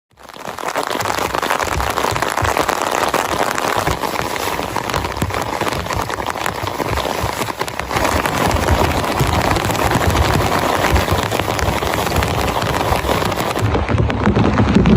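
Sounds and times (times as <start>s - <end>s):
heavy rain on a tent: 0.1s - 14.9s.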